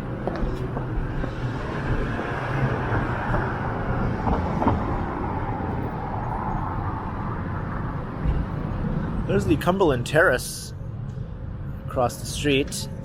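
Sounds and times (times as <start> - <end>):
road noise: 0.0 - 13.0
vehicle engines rumbling: 0.0 - 13.0.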